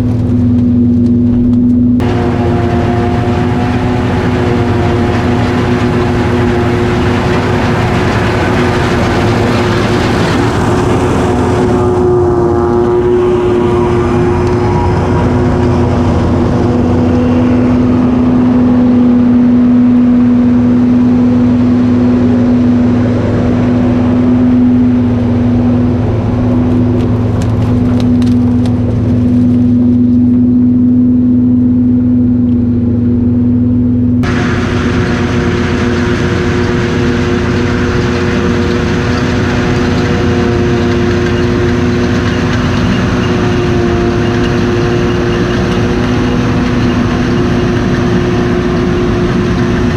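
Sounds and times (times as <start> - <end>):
harvesting machine engine humming: 0.0 - 49.9.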